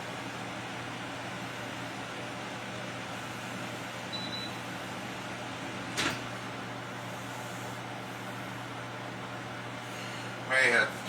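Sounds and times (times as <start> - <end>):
air fryer fan whirring: 0.0 - 11.0.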